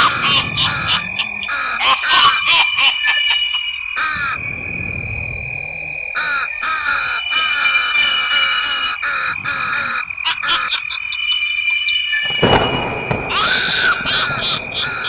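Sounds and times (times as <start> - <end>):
steady high tone: 0.0 - 15.0.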